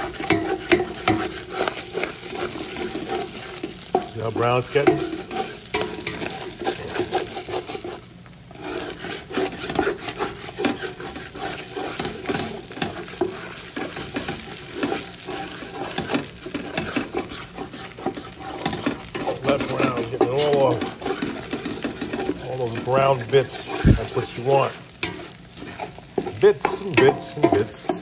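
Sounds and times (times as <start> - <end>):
meat sizzling in a pot: 0.0 - 28.0
wooden spoon scraping a pot: 0.0 - 28.0.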